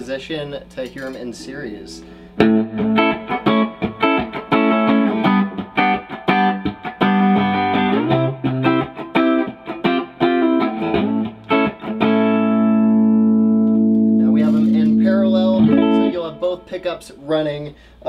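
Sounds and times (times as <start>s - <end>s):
electric guitar through amplifier: 0.6s - 17.0s.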